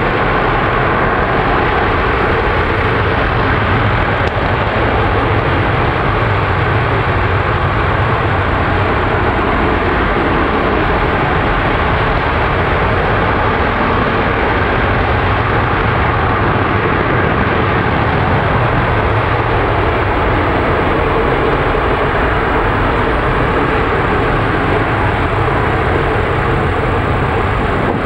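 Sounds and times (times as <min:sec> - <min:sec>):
rocket engine firing: 0:00.0 - 0:28.0.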